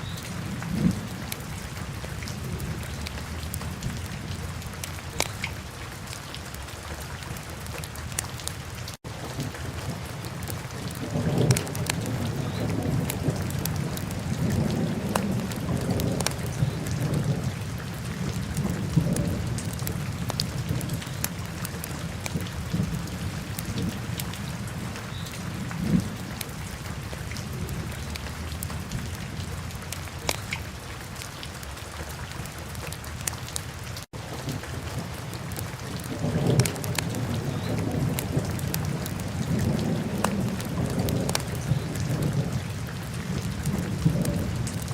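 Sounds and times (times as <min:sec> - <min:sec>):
steady rain: 0:00.0 - 0:44.9
low rolling thunder: 0:00.3 - 0:04.9, 0:09.2 - 0:29.9, 0:34.2 - 0:44.9.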